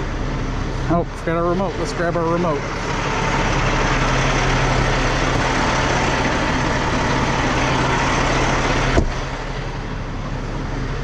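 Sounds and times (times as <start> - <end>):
constant whine: 0.0 - 11.0
diesel truck engine idling: 0.0 - 11.0.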